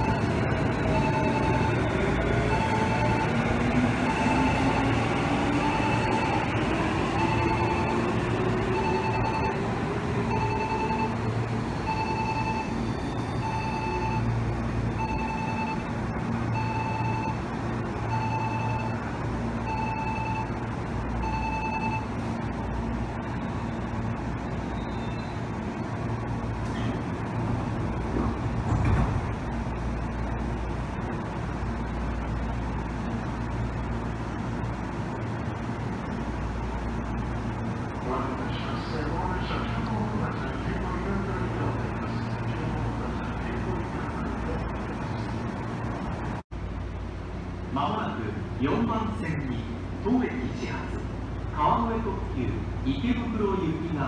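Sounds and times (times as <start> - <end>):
railway station mechanical hum: 0.0 - 54.0
train rumbling: 0.0 - 54.0.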